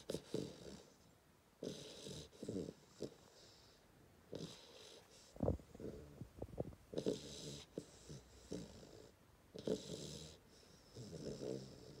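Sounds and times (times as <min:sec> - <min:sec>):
puppy snoring: 0:00.0 - 0:12.0.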